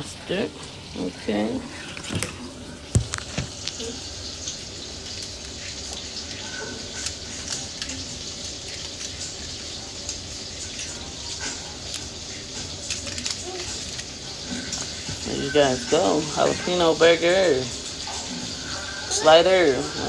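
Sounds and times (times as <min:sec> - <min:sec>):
burger patties sizzling on griddle: 0:02.3 - 0:20.0.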